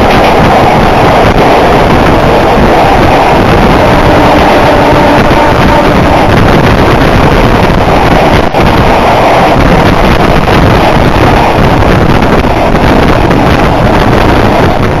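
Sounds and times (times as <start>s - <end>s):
passenger trains passing at speed: 0.0s - 15.0s
train wheels rumbling on rail: 0.0s - 15.0s
wind buffeting microphone: 0.0s - 15.0s.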